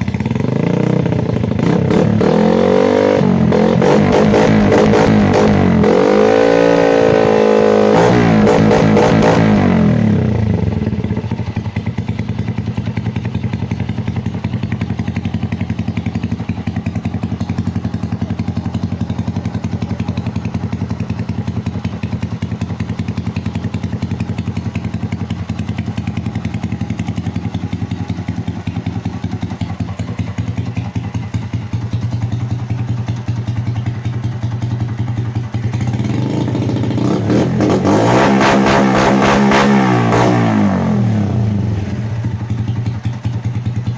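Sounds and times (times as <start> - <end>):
motorcycle engine idling: 0.0 - 5.9, 8.2 - 37.9, 40.4 - 43.9.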